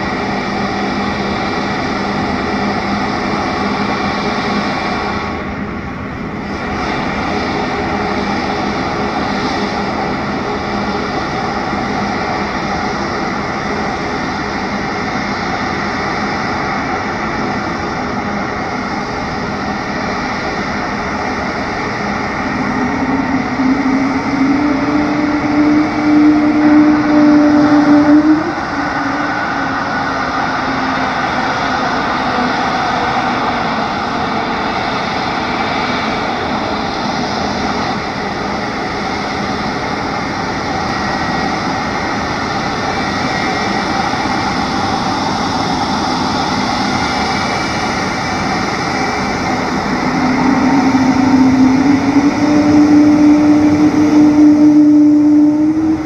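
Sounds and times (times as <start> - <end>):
jet engines running: 0.0 - 56.0
loud low hum: 0.0 - 56.0.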